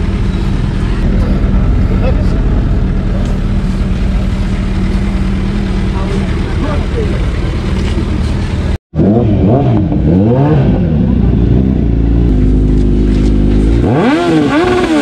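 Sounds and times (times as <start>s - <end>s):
motorcycle engines idling: 0.0s - 8.8s, 10.8s - 15.0s
motorcycle engine revving: 0.0s - 15.0s.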